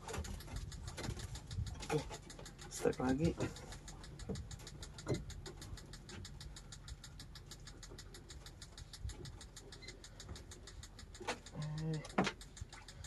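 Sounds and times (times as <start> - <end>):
small motor ticking and humming: 0.0 - 13.0.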